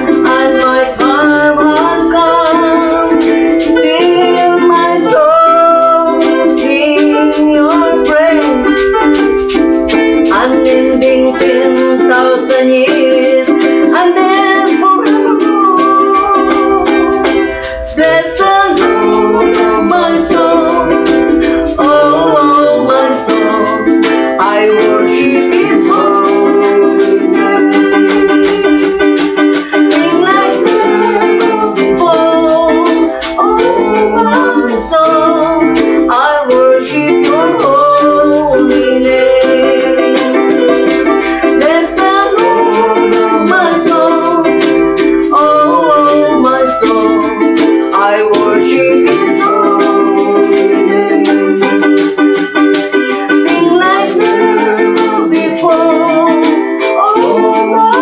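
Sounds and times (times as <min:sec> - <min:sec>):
ukulele strumming: 0:00.0 - 0:58.0
woman singing: 0:00.0 - 0:58.0.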